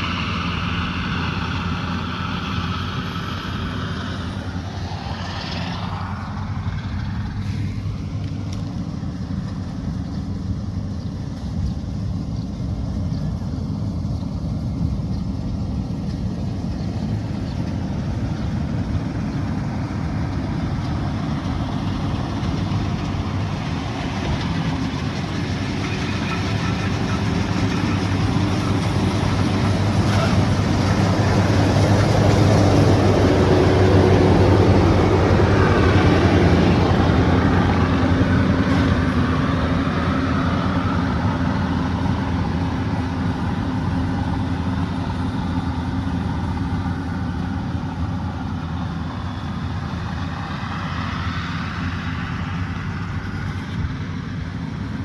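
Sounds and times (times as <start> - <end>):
farm machine diesel engine: 0.0 - 55.0.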